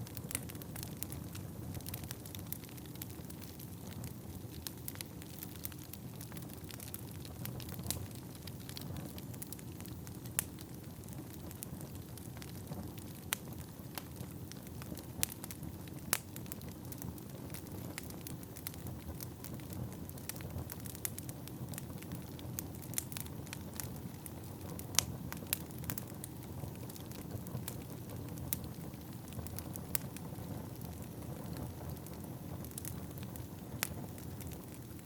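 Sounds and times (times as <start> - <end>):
fire crackles and pops: 0.0 - 35.0
fire rumbling: 0.0 - 35.0.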